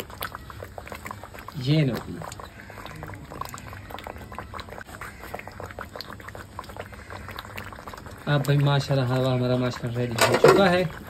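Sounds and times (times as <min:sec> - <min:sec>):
thick food bubbling and popping: 0:00.0 - 0:11.0.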